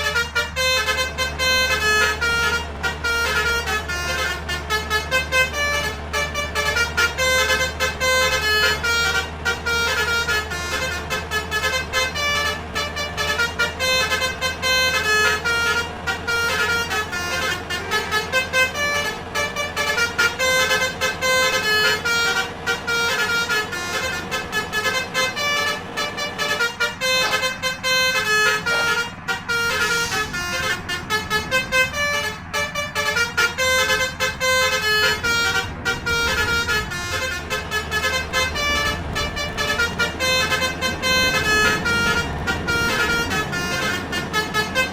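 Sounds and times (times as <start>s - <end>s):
bus engine rumble: 0.0s - 44.9s
bus horns playing melodic tunes: 0.0s - 44.9s.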